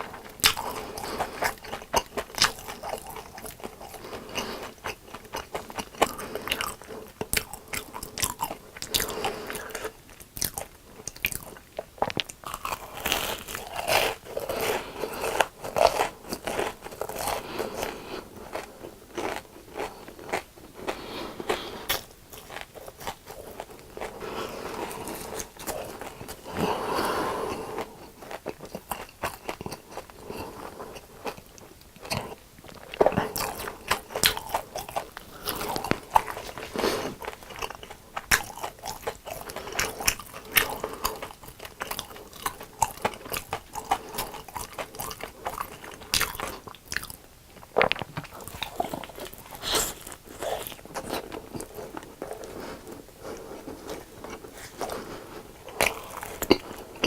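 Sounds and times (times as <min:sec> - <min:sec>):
crunchy chewing of fried food: 0:00.0 - 0:57.0.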